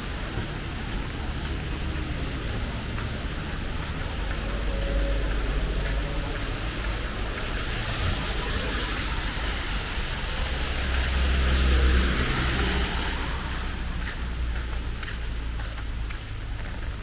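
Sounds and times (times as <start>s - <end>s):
steady rain hiss: 0.0s - 16.6s
vehicle passing by: 0.6s - 15.2s.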